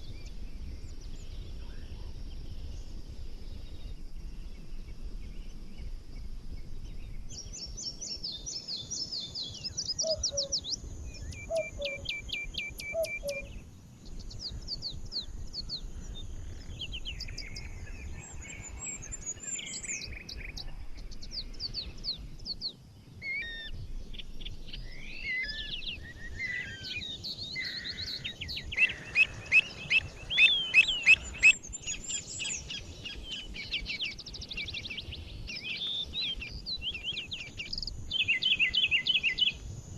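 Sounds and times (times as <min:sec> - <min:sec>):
low background hiss: 0:00.0 - 0:39.9
songbirds singing and chirping: 0:00.0 - 0:39.9.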